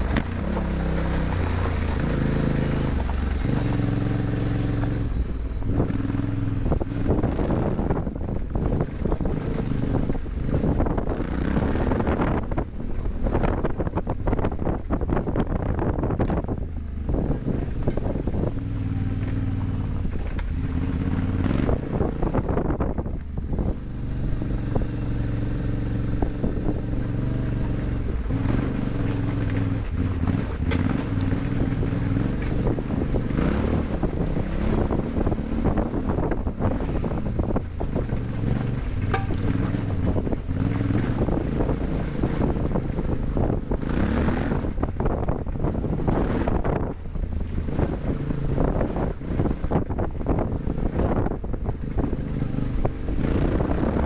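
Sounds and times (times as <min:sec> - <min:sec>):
motorcycle engine revving: 0:00.0 - 0:54.0
wind buffeting microphone: 0:00.0 - 0:54.0.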